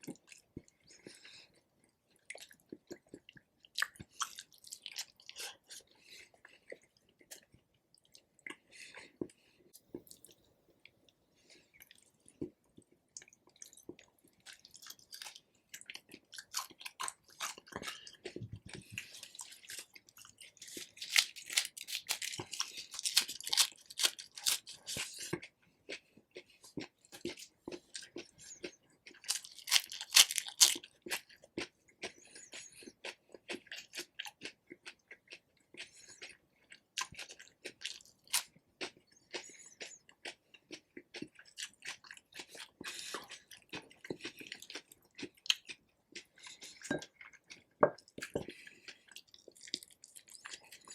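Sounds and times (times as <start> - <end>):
chewing and biting food: 0.0 - 10.4, 11.7 - 50.9.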